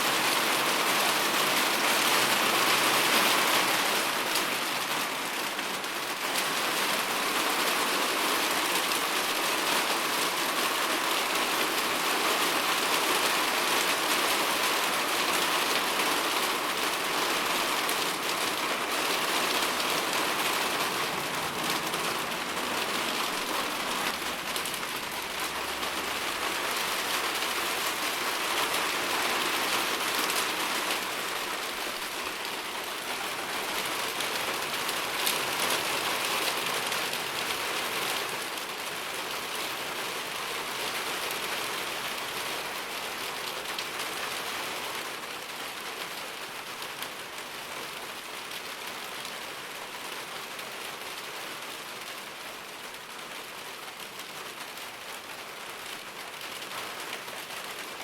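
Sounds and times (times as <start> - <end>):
steady rain with patter: 0.0 - 58.0.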